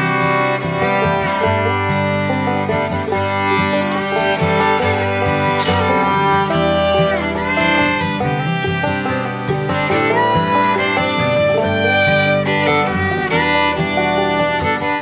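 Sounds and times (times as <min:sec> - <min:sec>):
fiddle and guitar bluegrass tune: 0:00.0 - 0:15.0.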